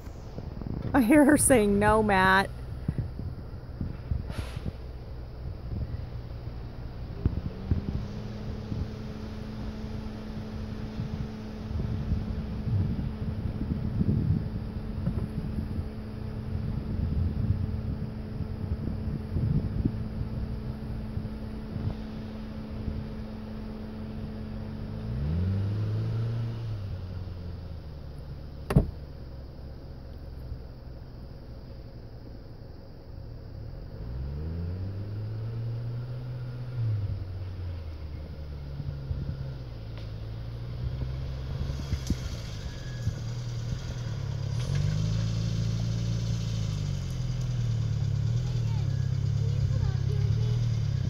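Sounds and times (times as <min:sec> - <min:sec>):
vehicle engine running: 0:00.0 - 0:51.0.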